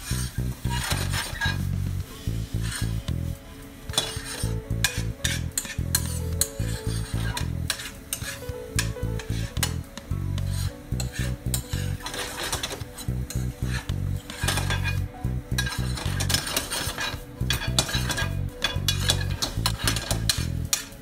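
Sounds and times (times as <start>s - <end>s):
food sizzling: 0.0s - 21.0s
spatula scraping a frying pan: 0.0s - 21.0s.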